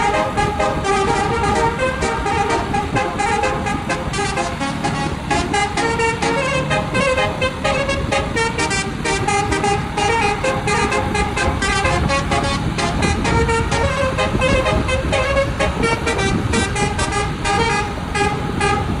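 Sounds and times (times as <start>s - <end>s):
multi-trumpet bus horn tune: 0.0s - 19.0s.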